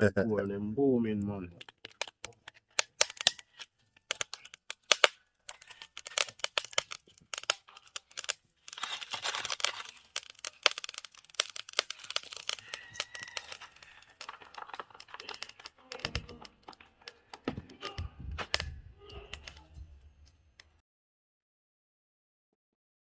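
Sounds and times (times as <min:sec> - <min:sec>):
charcoal fire crackling: 0:01.0 - 0:20.8.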